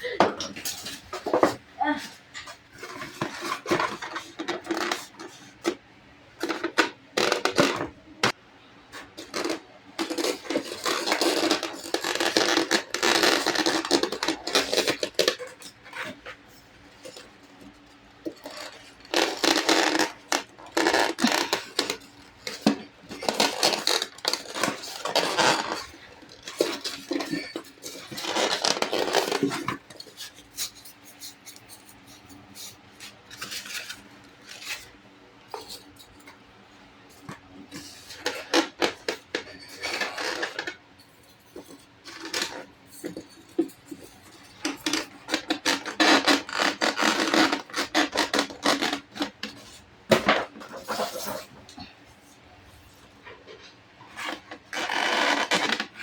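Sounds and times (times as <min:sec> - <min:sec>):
scraping and rubbing: 0:00.5 - 0:05.8, 0:06.4 - 0:36.4, 0:37.1 - 0:56.0.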